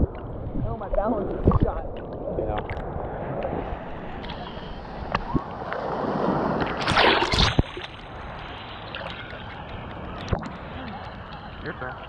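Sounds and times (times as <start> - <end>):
water sloshing and splashing: 0.0 - 12.0
wave splashing rush: 0.6 - 12.0.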